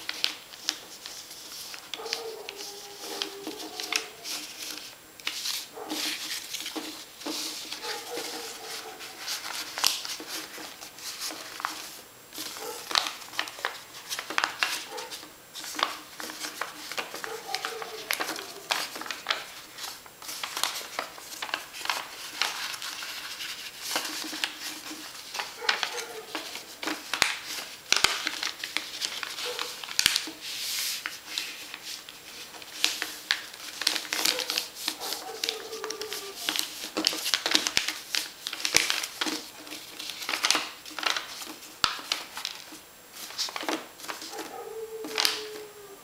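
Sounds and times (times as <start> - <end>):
paper rustling and crackling: 0.0 - 45.9.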